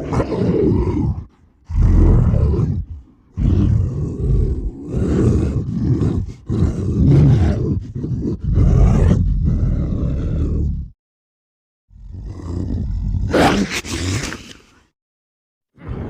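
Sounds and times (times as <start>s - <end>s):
deep monster growls: 0.0s - 11.0s, 11.9s - 14.9s, 15.7s - 16.0s.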